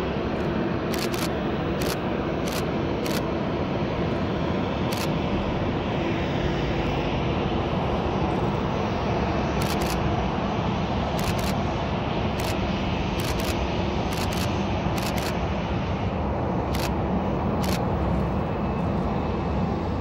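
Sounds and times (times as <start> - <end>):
jet engines rumbling and hissing: 0.0 - 20.0.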